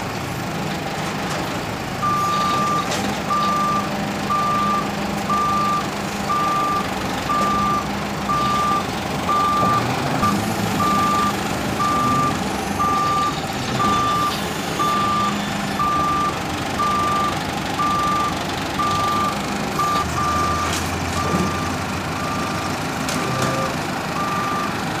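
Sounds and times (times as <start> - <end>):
machine engine rumble: 0.0 - 25.0
reversing alarm beeping: 2.0 - 22.8, 24.2 - 24.8.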